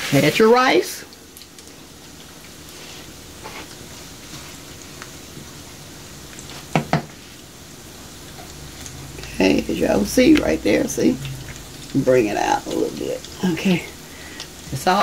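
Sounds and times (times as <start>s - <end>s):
sizzling hiss from saucepan: 0.0s - 15.0s.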